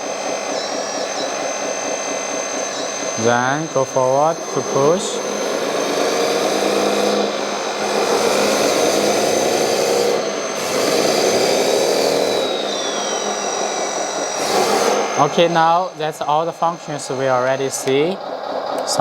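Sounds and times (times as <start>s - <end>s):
high motor whine: 0.0s - 19.0s.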